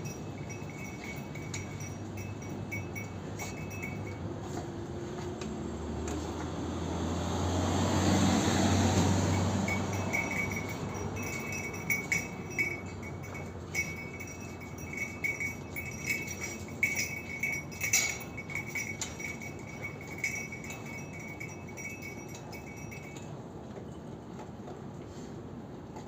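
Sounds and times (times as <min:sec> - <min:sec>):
high-pitched clinks and jingles: 0:00.0 - 0:05.4, 0:08.5 - 0:24.2.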